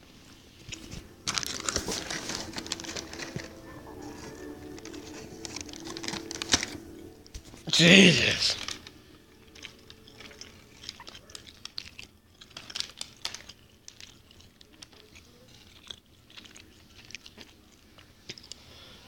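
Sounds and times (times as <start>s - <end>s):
person chewing: 0.4s - 19.0s.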